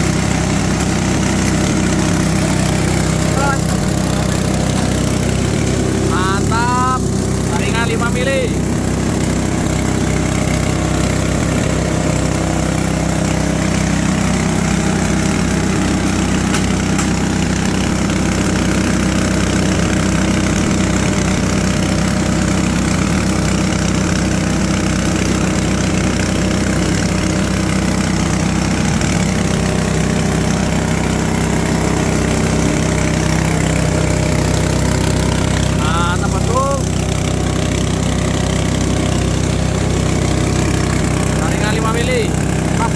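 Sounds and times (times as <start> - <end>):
shredder machine droning: 0.0 - 42.9.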